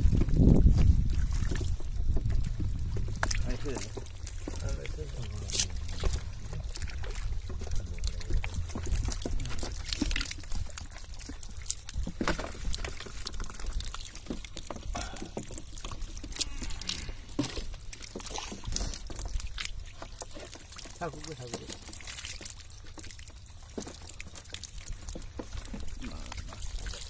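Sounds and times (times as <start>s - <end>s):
fish slapping in mud and water: 0.0s - 27.0s
water trickling from net: 0.0s - 27.0s.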